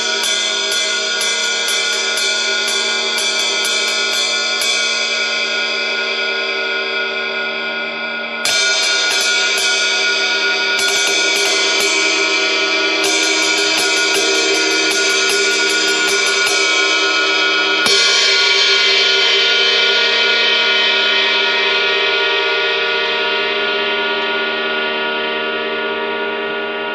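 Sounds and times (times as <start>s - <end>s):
ride cymbal strokes ringing: 0.0s - 24.5s.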